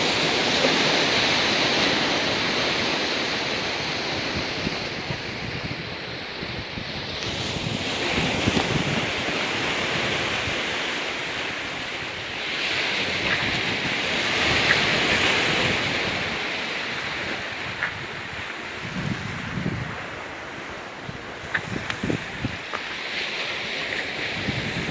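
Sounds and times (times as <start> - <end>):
ocean waves on rocky beach: 0.0 - 24.9
wind buffeting microphone: 0.0 - 24.9.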